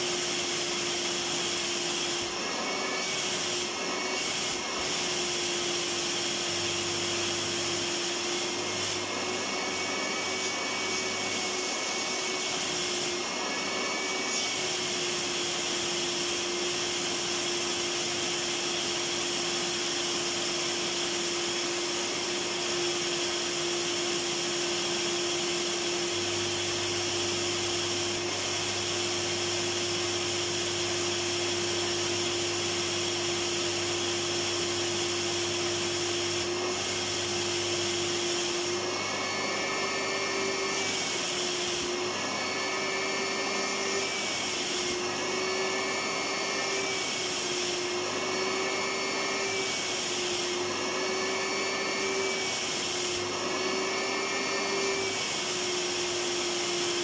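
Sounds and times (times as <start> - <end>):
vacuum cleaner motor whining: 0.0 - 57.0.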